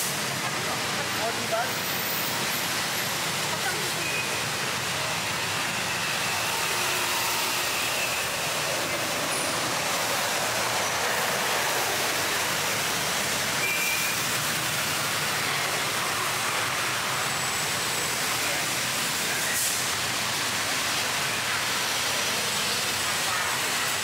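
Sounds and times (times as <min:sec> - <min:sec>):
busy road traffic: 0:00.0 - 0:24.0.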